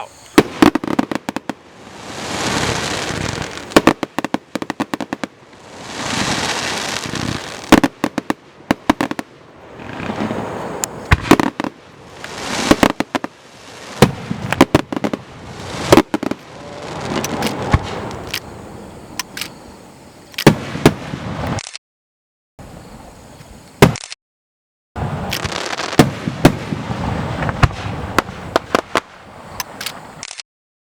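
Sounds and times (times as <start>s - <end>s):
fireworks bursting bangs: 0.0s - 19.4s, 20.4s - 21.6s, 23.8s - 24.0s, 25.0s - 30.2s
fireworks hissing: 0.0s - 21.6s, 25.0s - 30.2s.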